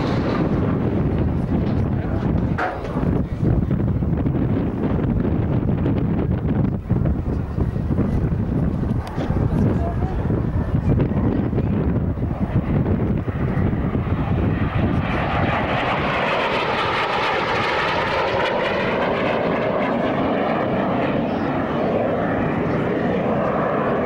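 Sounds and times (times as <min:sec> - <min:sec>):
aircraft flying past: 0:00.0 - 0:24.0
wind buffeting microphone: 0:00.0 - 0:24.0.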